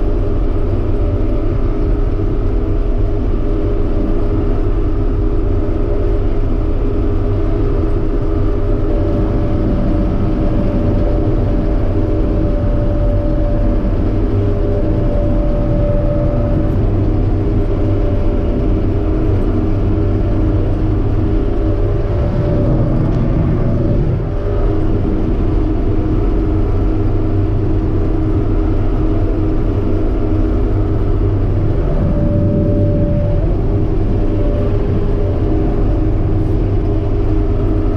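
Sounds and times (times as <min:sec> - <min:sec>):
combine harvester drone: 0:00.0 - 0:37.9
thin machine whine: 0:00.0 - 0:37.9.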